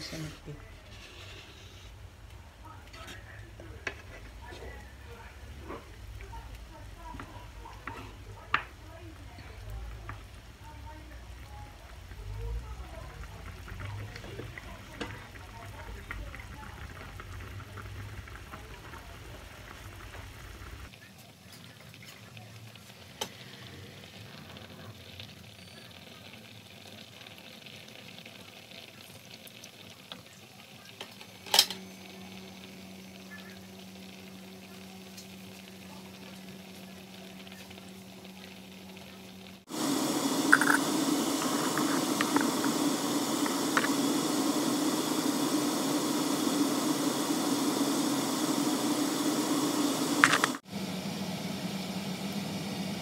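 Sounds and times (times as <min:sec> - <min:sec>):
sauce bubbling and sizzling: 0:00.0 - 0:53.0.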